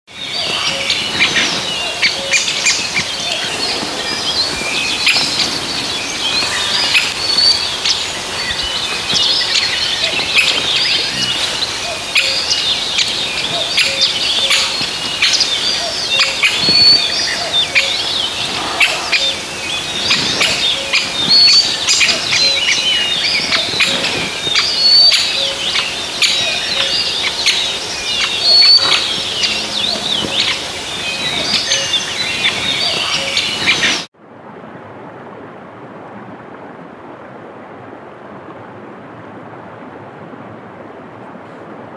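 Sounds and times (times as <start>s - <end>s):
songbirds chirping and whistling: 0.1s - 34.1s.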